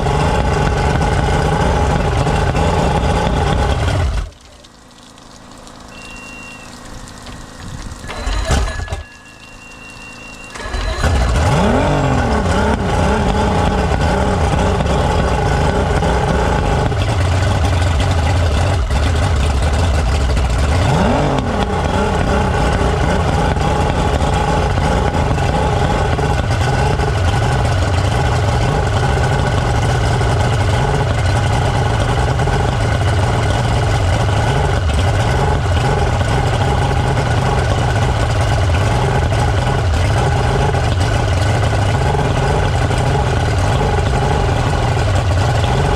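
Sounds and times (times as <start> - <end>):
outboard engine running: 0.0 - 45.9.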